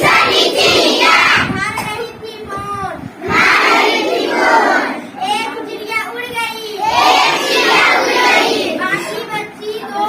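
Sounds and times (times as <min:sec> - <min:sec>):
children singing and chanting: 0:00.0 - 0:10.0.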